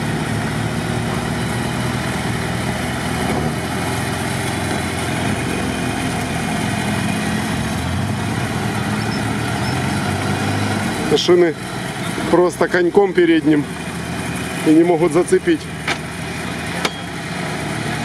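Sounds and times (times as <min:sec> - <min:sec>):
off-road vehicle engine under load: 0:00.0 - 0:18.0.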